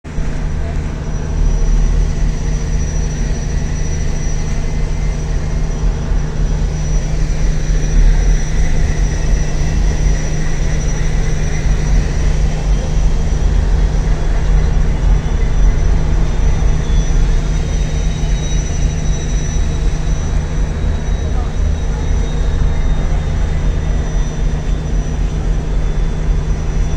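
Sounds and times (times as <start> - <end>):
ferry engines rumbling: 0.0 - 26.9
faint high whine: 0.1 - 26.9.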